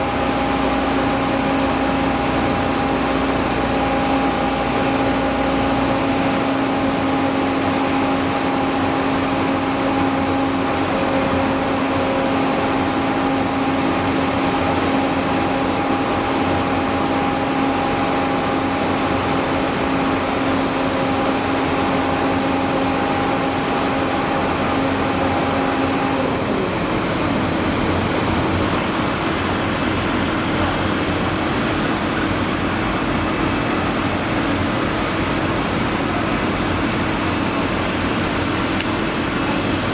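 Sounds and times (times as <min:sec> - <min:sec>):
loud machine engine hum: 0:00.0 - 0:39.9.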